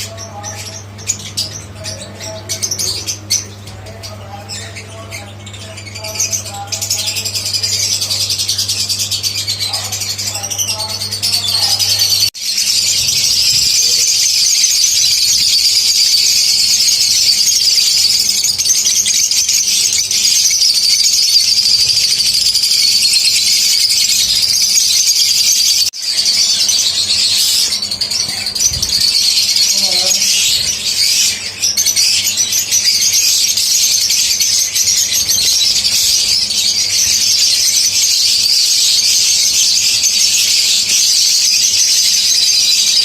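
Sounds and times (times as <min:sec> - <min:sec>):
lovebirds chirping and squeaking: 0:00.0 - 0:43.0.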